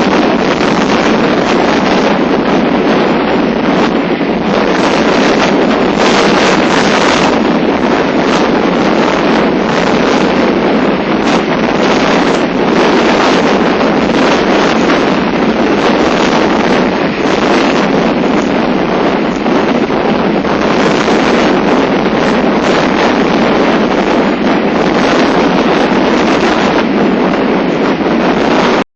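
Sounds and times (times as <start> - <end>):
strong wind on microphone: 0.0 - 28.9.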